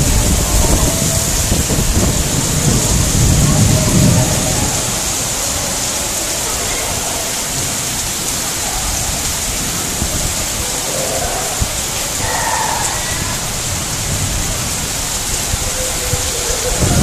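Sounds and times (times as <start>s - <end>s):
heavy rain pouring on pavement: 0.0s - 17.0s.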